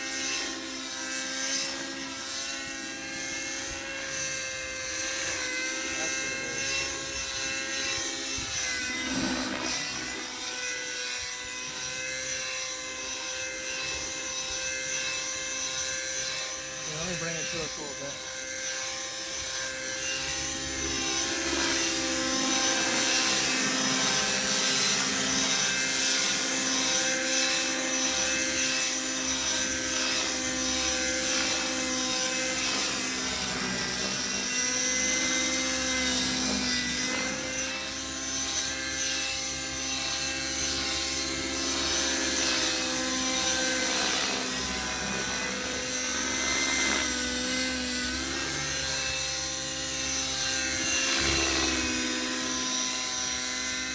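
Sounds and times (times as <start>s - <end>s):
model helicopter engine whine: 0.0s - 53.9s.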